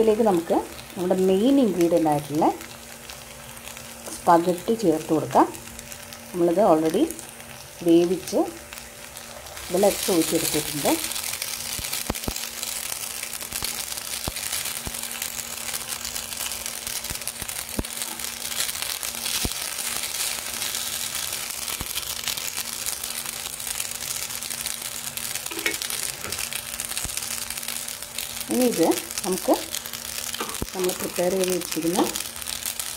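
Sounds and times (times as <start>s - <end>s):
food sizzling in a frying pan: 0.0s - 32.9s.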